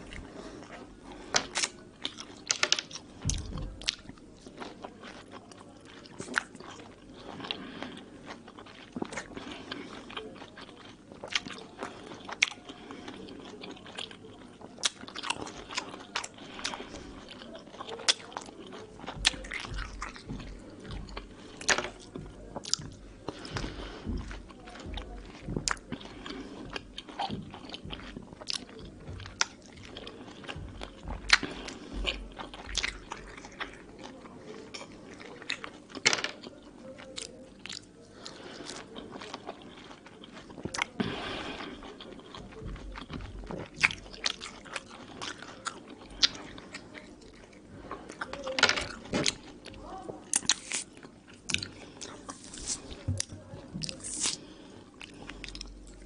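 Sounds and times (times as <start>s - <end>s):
person chewing juicy fruit: 0.0s - 56.0s.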